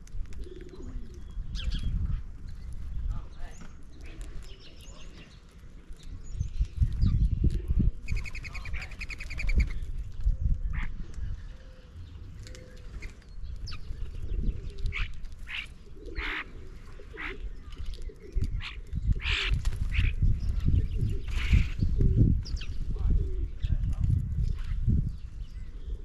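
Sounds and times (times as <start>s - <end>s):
bird calls and chirps: 0.4s - 26.0s
birds rattling chatter: 0.4s - 26.0s.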